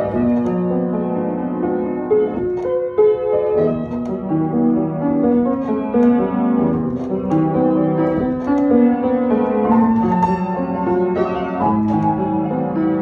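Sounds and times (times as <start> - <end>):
upright piano playing: 0.0 - 13.0.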